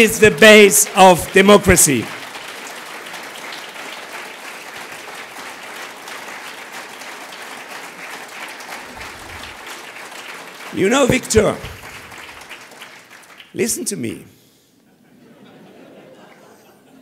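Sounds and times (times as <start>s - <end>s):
audience clapping: 0.0s - 14.3s.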